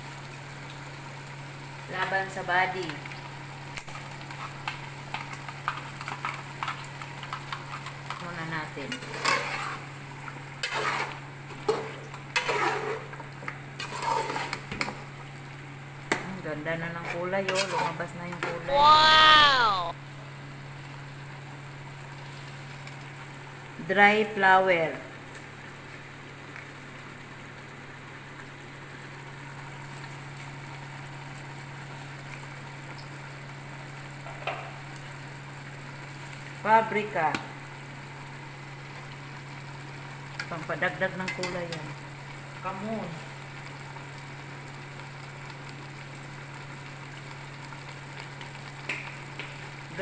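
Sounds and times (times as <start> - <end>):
food sizzling in a pot: 0.0 - 50.0.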